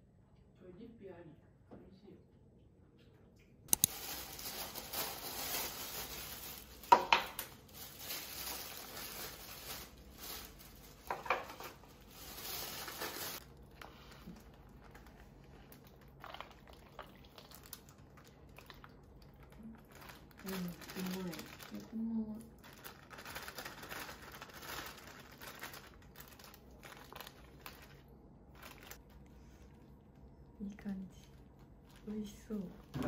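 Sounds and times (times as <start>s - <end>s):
plastic packaging rustling: 3.8s - 30.3s.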